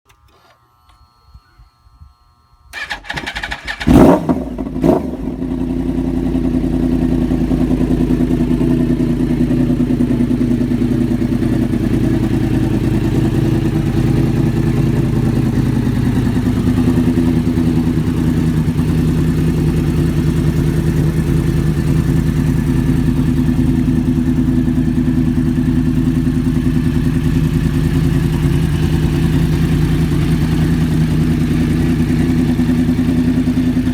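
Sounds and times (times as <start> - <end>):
motorcycle starting and idling: 2.7 - 33.9.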